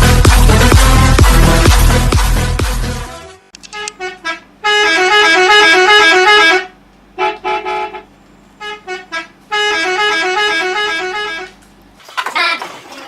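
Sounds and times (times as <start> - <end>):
bus horn playing warbling tune: 0.0 - 11.6.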